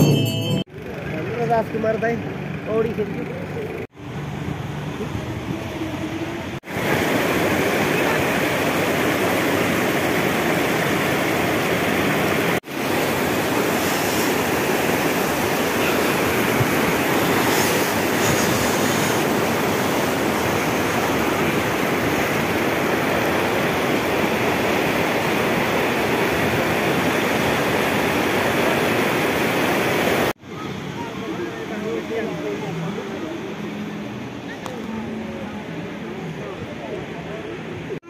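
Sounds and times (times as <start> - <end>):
fast-flowing water rushing: 4.2 - 38.0.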